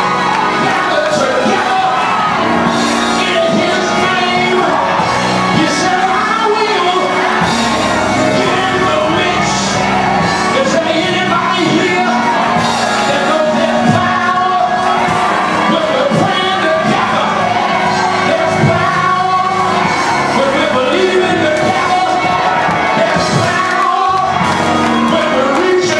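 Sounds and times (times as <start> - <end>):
congregation shouting and whooping: 0.0 - 25.9
gospel choir singing: 0.0 - 25.9.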